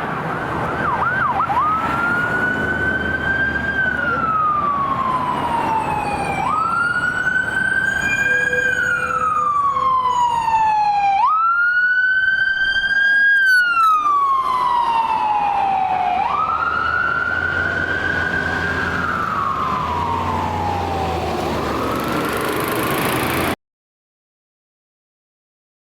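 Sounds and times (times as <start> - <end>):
emergency siren wailing: 0.0 - 23.6.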